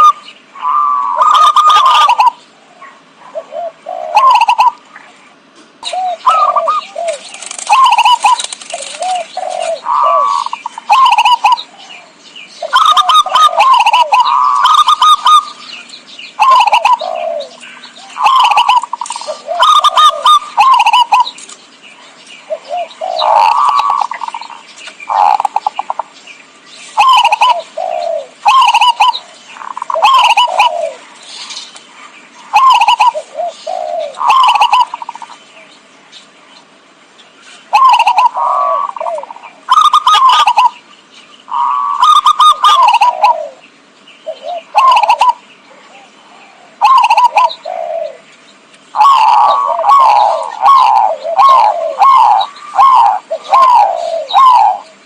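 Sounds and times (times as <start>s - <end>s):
dove cooing: 0.0s - 5.2s, 5.8s - 21.4s, 22.1s - 26.2s, 26.9s - 35.7s, 37.6s - 40.9s, 41.5s - 48.3s, 48.9s - 55.0s.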